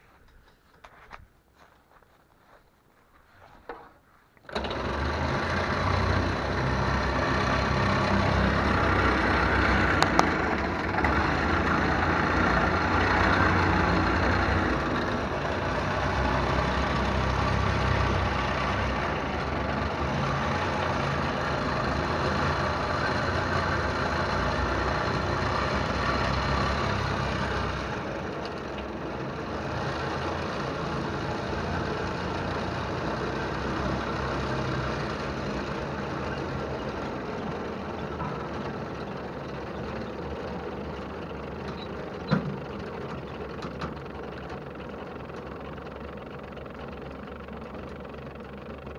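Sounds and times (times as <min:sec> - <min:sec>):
truck engine running: 0:04.4 - 0:48.9.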